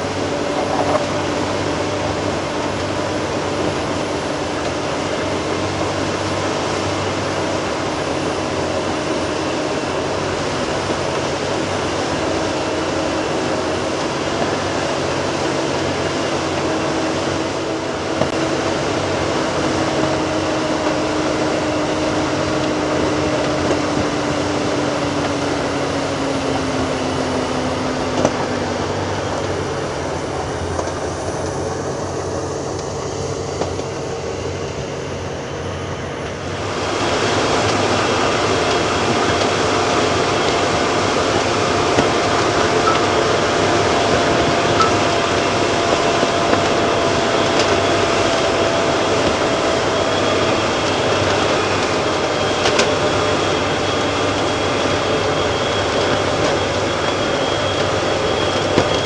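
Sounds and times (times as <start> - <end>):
heavy machinery diesel engines: 0.0 - 59.0.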